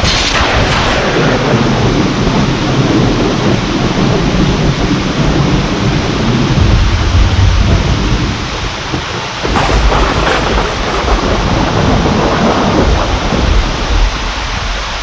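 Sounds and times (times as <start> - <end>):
sharp thunderclap: 0.0 - 14.7
low thunder rumble: 0.0 - 14.9
heavy rain: 0.0 - 15.0.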